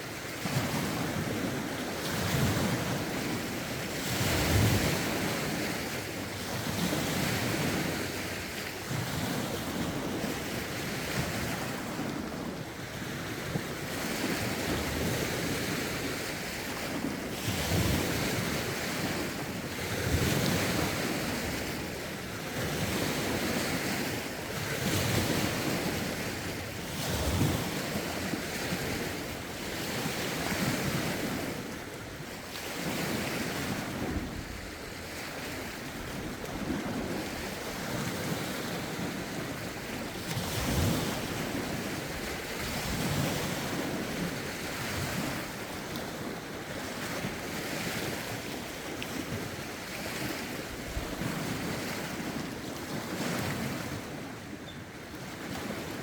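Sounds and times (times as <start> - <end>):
lake waves washing in: 0.0 - 56.0
wind buffeting microphone: 0.4 - 56.0.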